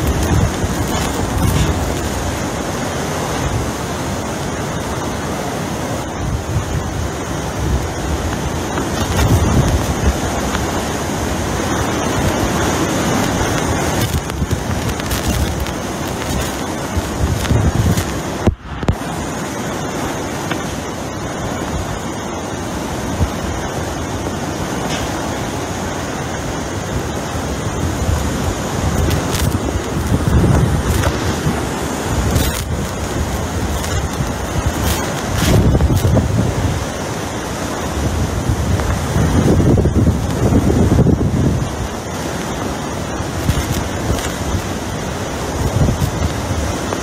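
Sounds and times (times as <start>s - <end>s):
wind rushing: 0.0s - 4.0s, 6.0s - 20.9s, 23.0s - 47.0s
driving rain: 0.0s - 47.0s
wind buffeting microphone: 0.0s - 47.0s.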